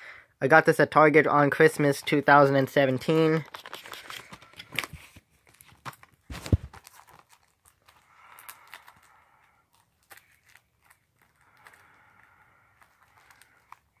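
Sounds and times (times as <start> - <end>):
wrapping paper crinkling and tearing: 2.0 - 14.0.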